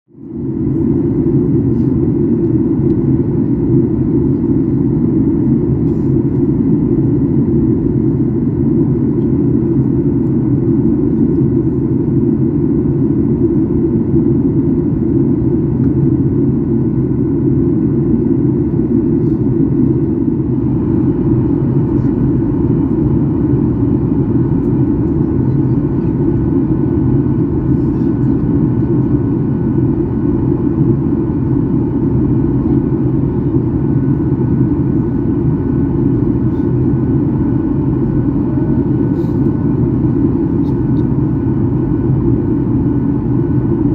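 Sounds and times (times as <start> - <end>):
airliner cabin rumble: 0.2 - 43.9.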